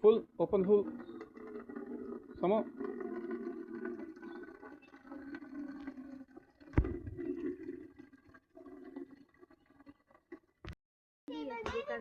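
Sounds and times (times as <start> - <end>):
water running into watering can: 0.0 - 10.6.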